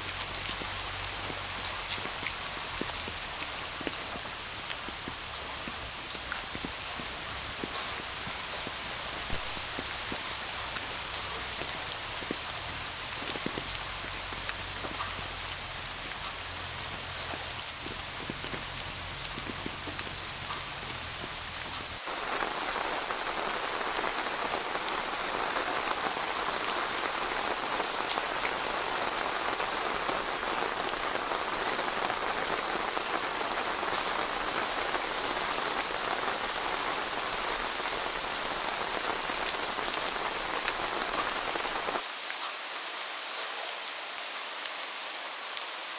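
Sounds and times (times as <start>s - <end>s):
raindrops ticking: 0.0s - 42.0s
rain falling: 0.0s - 45.9s.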